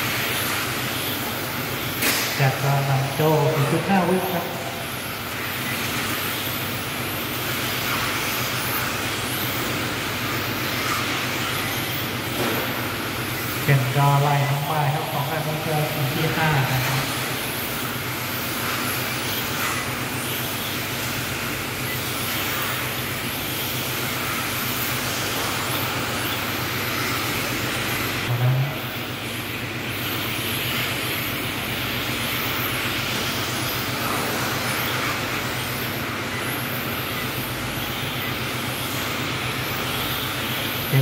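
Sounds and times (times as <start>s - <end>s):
electric motors whining: 0.0s - 41.0s
steady low hum: 0.0s - 41.0s.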